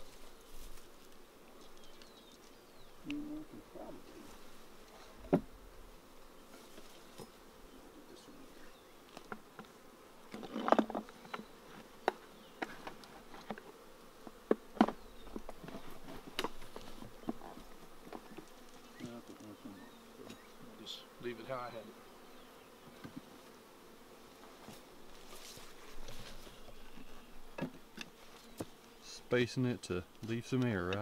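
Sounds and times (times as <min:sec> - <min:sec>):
honey bees buzzing: 0:00.0 - 0:31.0.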